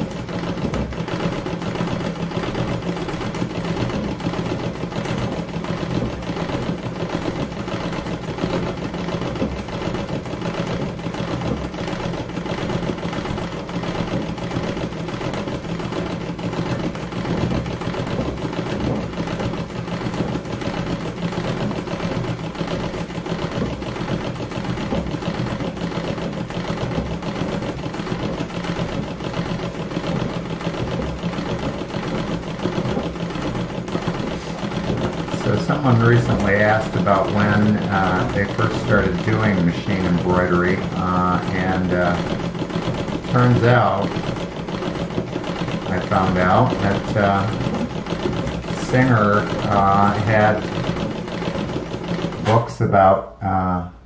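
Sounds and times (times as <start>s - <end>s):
sewing machine stitching: 0.0s - 53.7s.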